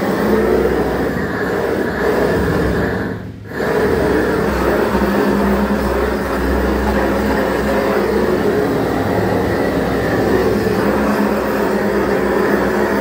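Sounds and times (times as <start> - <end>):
gas torch burning: 0.0 - 13.0.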